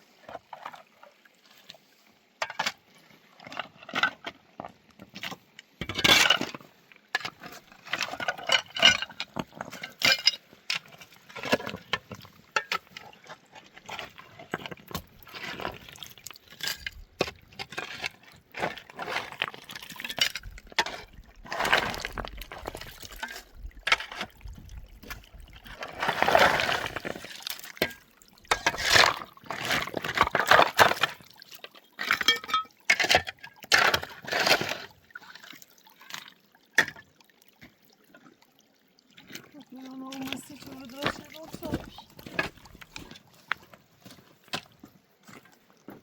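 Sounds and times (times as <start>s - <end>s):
water sloshing and pouring: 0.1s - 46.0s.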